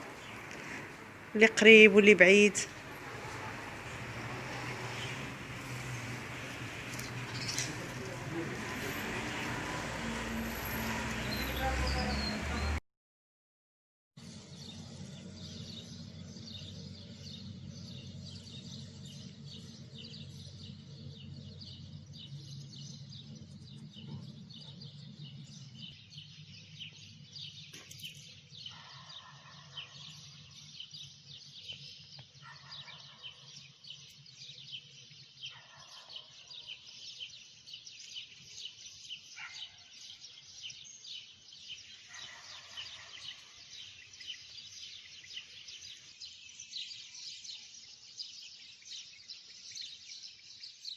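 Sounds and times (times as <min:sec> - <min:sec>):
small birds chirping: 0:00.0 - 0:09.9, 0:14.2 - 0:50.9.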